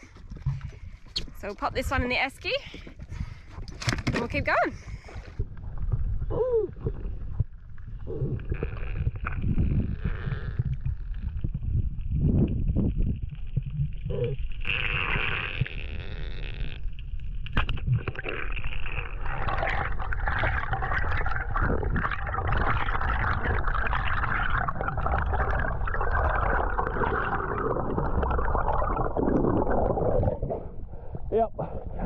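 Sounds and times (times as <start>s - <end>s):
underwater low rumble: 0.0s - 32.0s
underwater crackling and fizzing: 3.2s - 31.3s.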